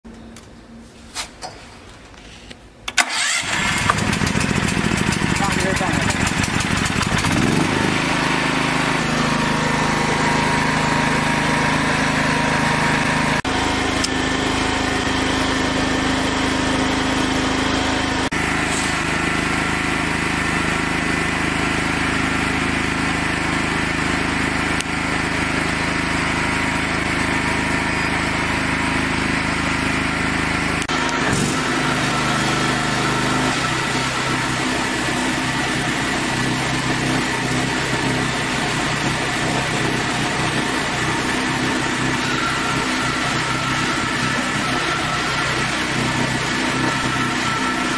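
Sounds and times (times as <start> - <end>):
sawmill engine running: 2.9 - 47.9.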